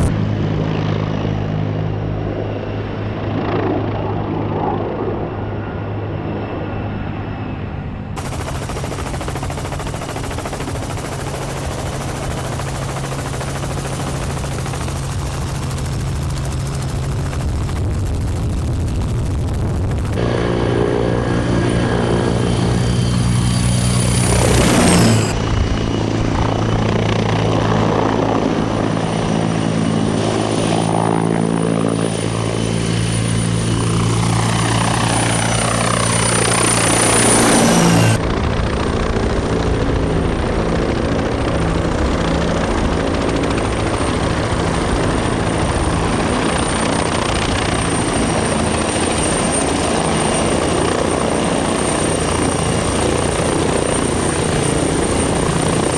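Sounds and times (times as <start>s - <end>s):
helicopter rotor and engines: 0.0s - 55.9s.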